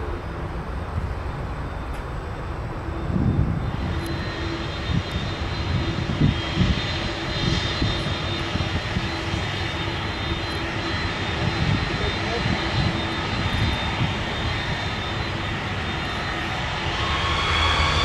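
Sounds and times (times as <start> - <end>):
high engine whine: 0.0 - 18.0
jet engines rumbling: 0.0 - 18.0.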